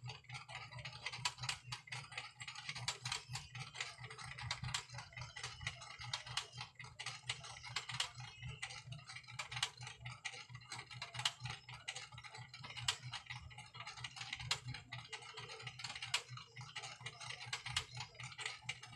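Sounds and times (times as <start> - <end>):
rapid clicking and tapping: 0.0 - 18.9.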